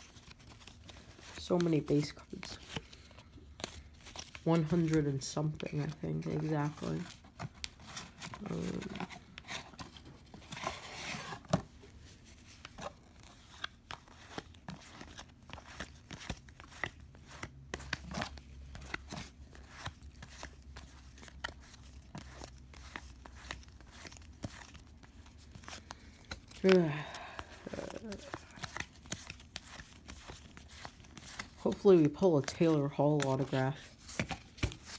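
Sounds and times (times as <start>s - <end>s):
card rustle: 0.0s - 34.9s.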